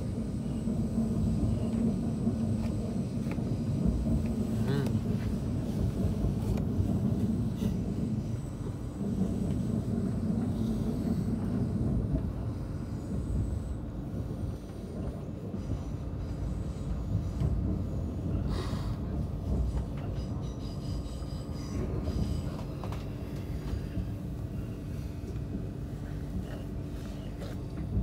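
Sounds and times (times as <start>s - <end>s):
constant low hum: 0.0s - 28.0s
train wheels rumbling on rails: 0.0s - 28.0s.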